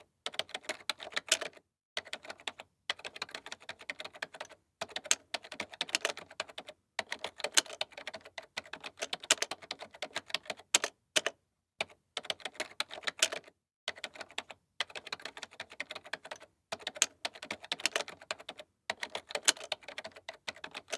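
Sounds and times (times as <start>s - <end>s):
rapid typing on a keyboard: 0.3s - 20.9s.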